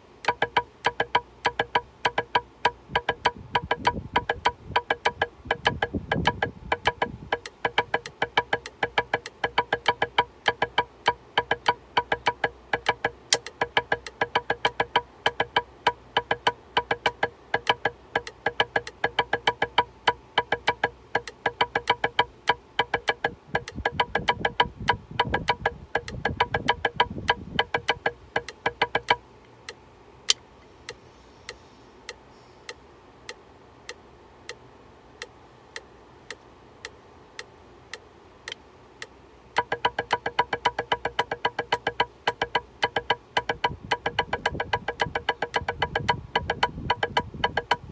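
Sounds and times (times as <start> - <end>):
drumsticks on practice pad: 0.0 - 47.9
metronome ticking: 0.0 - 47.9.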